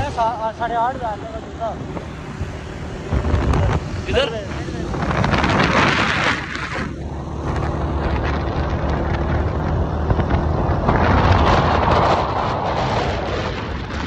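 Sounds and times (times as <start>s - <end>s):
motorcycle engine cruising: 0.0s - 14.0s
wind rushing over microphone: 0.0s - 14.0s.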